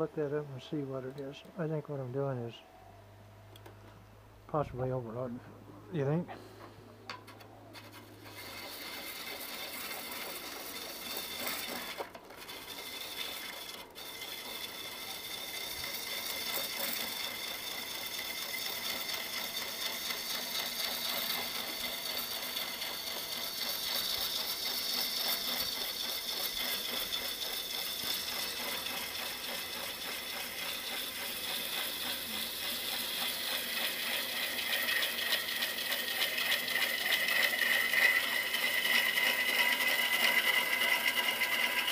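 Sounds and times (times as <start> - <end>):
gouge rasping wood on lathe: 7.7 - 41.9.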